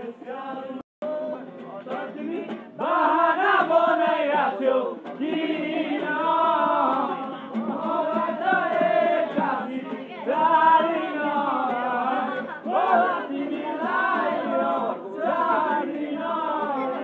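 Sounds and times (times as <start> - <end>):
acoustic guitar: 0.0 - 17.0
young men singing together: 0.0 - 17.0.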